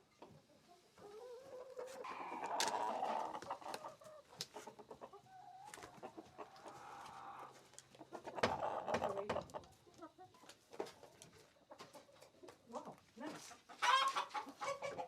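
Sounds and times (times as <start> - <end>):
hens clucking: 0.1 - 15.0.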